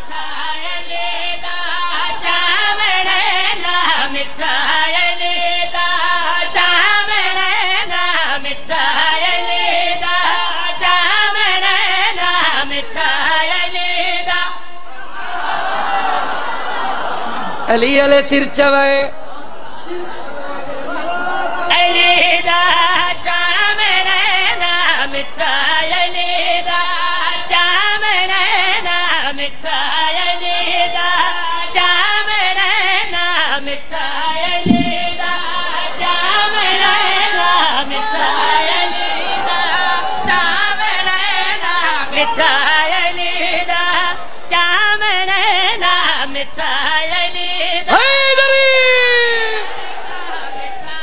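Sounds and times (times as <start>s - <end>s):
man singing over loudspeakers: 0.0s - 14.8s, 21.7s - 39.3s, 40.2s - 51.0s.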